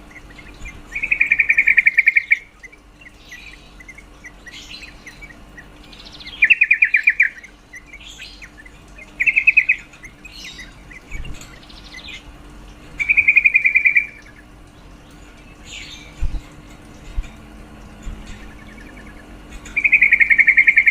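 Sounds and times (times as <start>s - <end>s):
faint bird chirps: 0.0s - 12.3s, 13.0s - 16.4s, 18.2s - 20.9s
bird rapid chattering: 0.0s - 17.3s, 18.1s - 20.9s.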